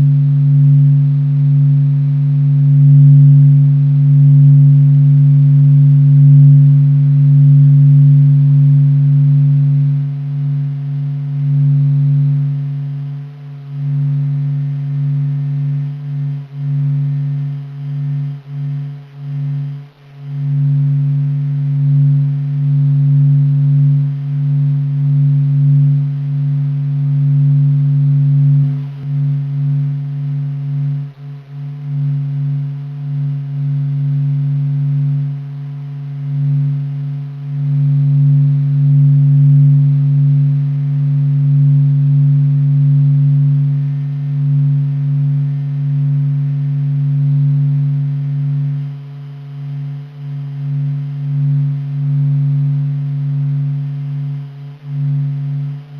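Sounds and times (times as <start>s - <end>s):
deep steady drone: 0.0s - 55.9s
fainter higher tone: 0.0s - 55.9s.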